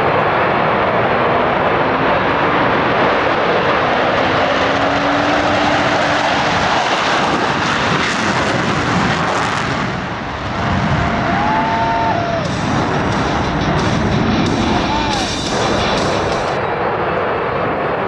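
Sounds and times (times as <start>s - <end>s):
aircraft engine roar: 0.0s - 18.0s.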